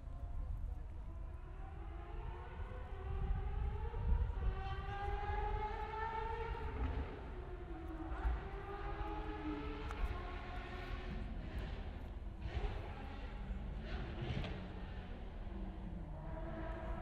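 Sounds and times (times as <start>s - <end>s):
distant race car engines: 0.0s - 17.0s.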